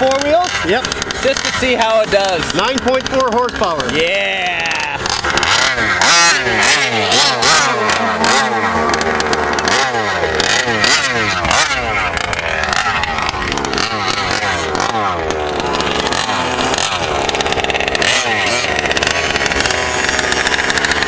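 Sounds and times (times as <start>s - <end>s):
small two-stroke engine revving: 0.0s - 21.0s.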